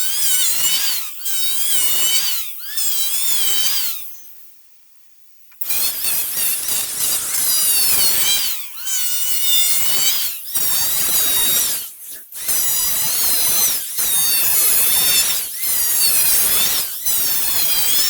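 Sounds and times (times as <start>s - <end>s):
power tool cutting wood: 0.0s - 4.2s, 5.6s - 18.0s.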